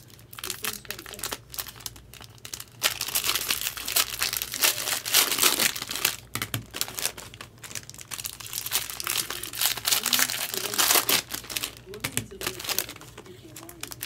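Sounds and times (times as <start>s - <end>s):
plastic wrapping crinkling and tearing: 0.0s - 14.0s.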